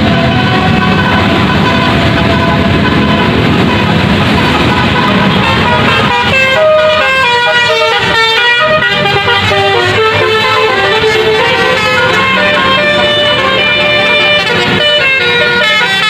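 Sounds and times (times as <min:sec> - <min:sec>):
bus musical horn melody: 0:00.0 - 0:16.0.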